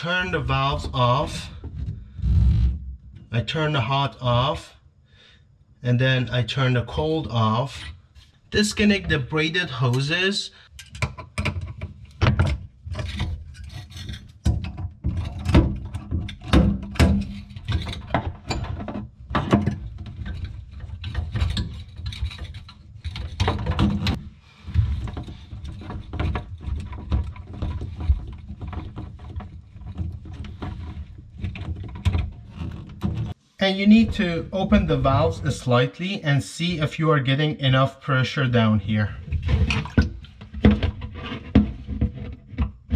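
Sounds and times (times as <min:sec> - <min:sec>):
metal and hose scraping: 0:00.0 - 0:03.3, 0:07.6 - 0:36.9, 0:38.3 - 0:42.9.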